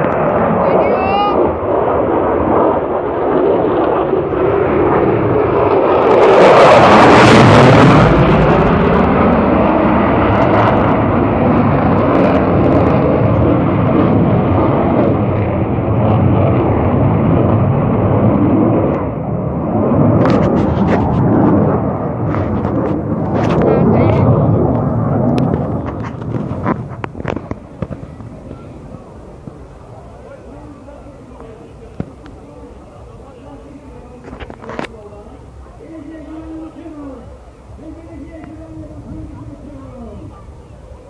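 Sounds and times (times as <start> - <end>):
fighter jet engine roar: 0.0 - 41.0.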